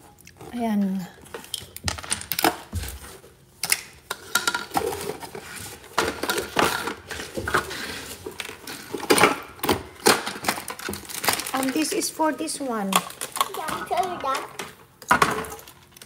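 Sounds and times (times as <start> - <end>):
plastic toys clattering: 1.3 - 16.0.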